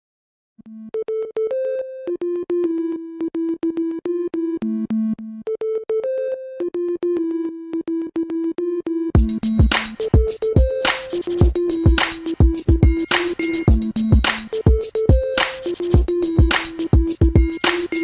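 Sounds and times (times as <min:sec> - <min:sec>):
synthesizer melody: 0:00.7 - 0:18.0.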